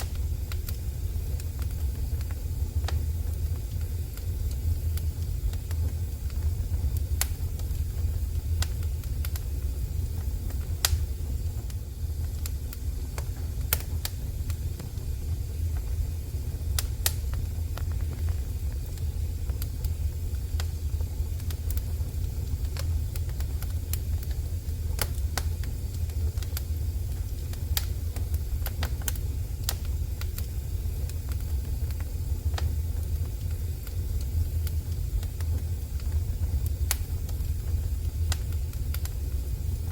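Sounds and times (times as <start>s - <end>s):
steady low rumble: 0.0s - 39.9s
wood fire crackling and popping: 0.0s - 39.9s.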